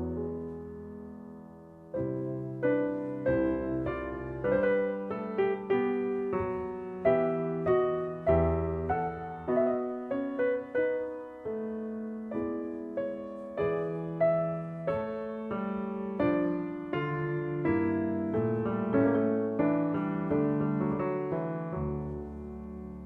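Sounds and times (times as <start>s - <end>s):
slow gentle piano melody: 0.0s - 23.0s.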